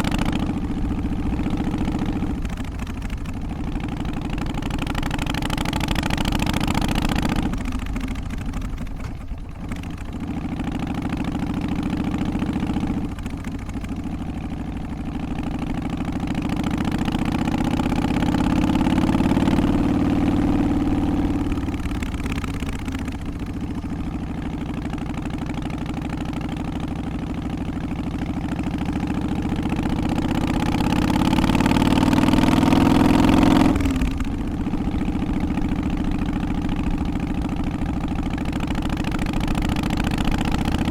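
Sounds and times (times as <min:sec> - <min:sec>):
motorcycle engine shifting gears: 0:00.0 - 0:40.9.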